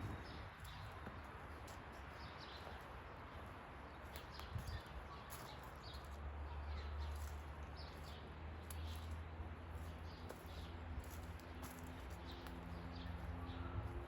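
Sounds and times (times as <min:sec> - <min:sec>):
footsteps on forest track: 0:00.4 - 0:14.0.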